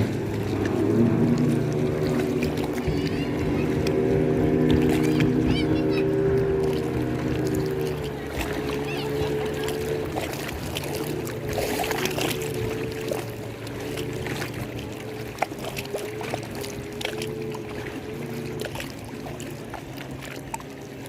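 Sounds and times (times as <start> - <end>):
motor hum: 0.0 - 21.0
water splashing and lapping: 0.0 - 21.0.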